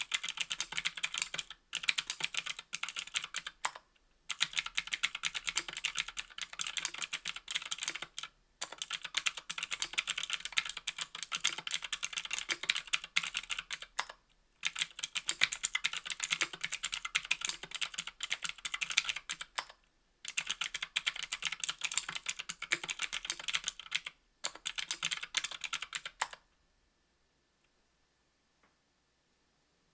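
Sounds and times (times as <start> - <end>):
mechanical keyboard typing: 0.0 - 26.4.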